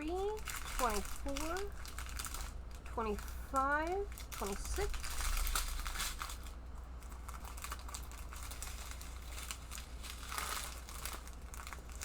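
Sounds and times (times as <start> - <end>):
plastic packets crinkling: 0.0 - 12.0.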